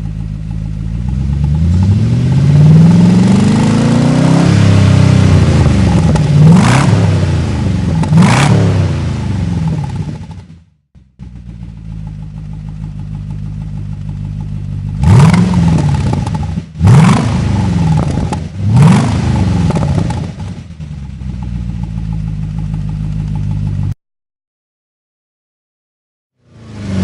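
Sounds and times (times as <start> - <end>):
car engine idling and revving: 0.0 - 24.0, 26.4 - 27.0.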